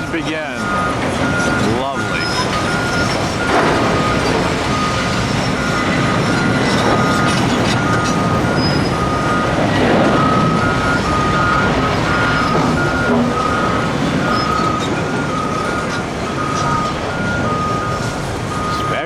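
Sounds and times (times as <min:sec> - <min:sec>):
heavy machinery rumble: 0:00.0 - 0:19.0
reversing alarms beeping: 0:00.0 - 0:19.0.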